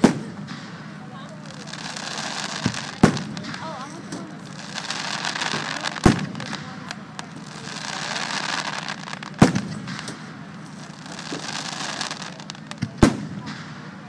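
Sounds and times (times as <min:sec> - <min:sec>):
fireworks crackling: 0:00.0 - 0:14.0
loud firework boom: 0:00.0 - 0:14.0.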